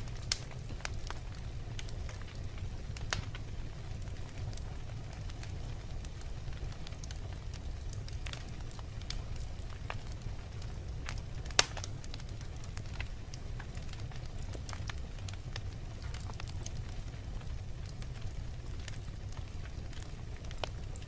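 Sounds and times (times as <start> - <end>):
fire crackling and snapping: 0.0 - 21.0
fire low rumble: 0.0 - 21.0.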